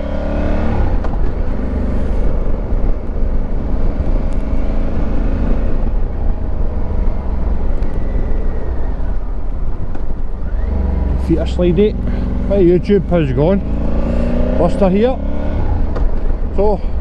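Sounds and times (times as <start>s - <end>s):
motorcycle engine running: 0.0s - 17.0s
heavy low rumble: 0.6s - 17.0s.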